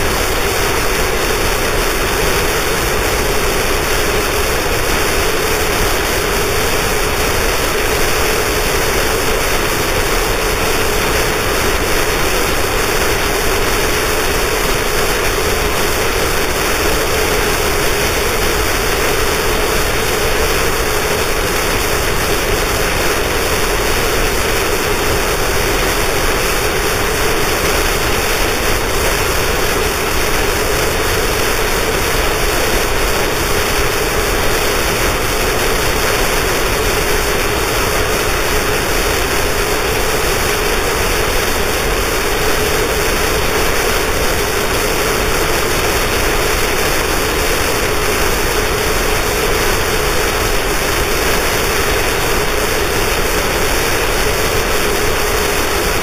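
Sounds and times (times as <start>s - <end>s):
dense static noise: 0.0s - 56.0s.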